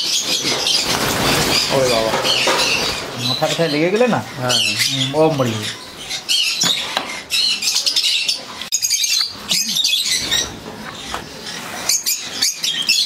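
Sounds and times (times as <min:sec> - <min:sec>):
small parrots squawking and chirping: 0:00.0 - 0:13.0.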